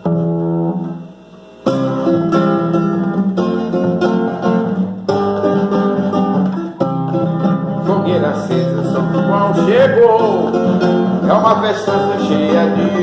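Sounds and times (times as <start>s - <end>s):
plucked-string band playing: 0.0s - 13.0s.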